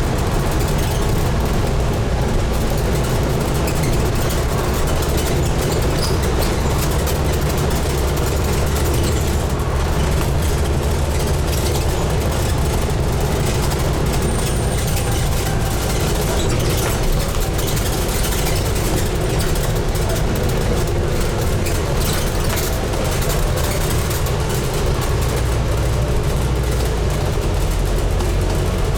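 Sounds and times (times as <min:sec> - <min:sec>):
bus diesel engine droning: 0:00.0 - 0:28.9
road noise: 0:00.0 - 0:28.9.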